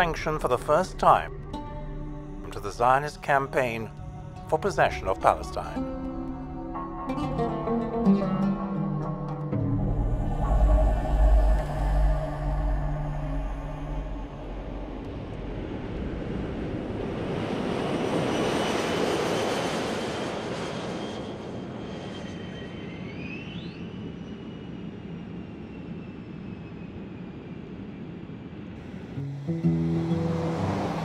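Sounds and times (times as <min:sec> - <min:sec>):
aircraft passing over: 0:00.0 - 0:06.7, 0:09.6 - 0:31.0.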